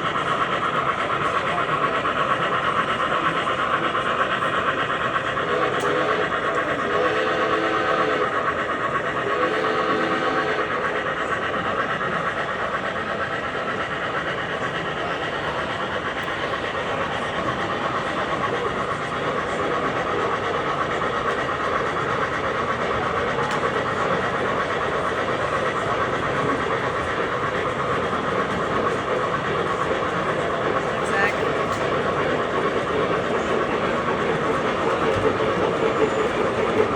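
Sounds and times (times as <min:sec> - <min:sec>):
model trains whirring: 0:00.0 - 0:36.9.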